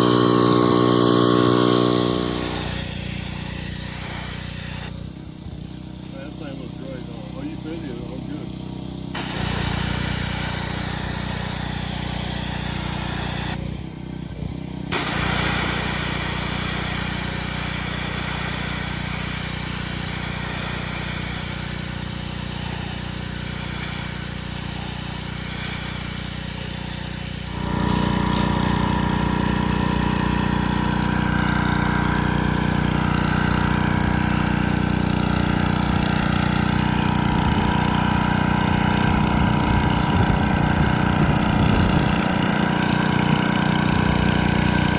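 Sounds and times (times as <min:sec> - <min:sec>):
water spraying hiss: 0:00.0 - 0:05.0, 0:09.1 - 0:14.3, 0:14.9 - 0:44.9
pressure washer engine running: 0:00.0 - 0:44.9.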